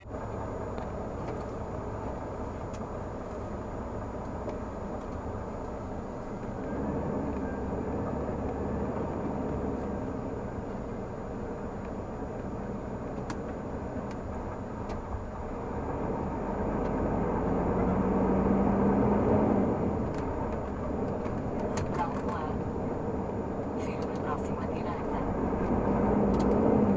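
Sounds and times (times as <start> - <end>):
truck engine rumbling: 0.0 - 26.9.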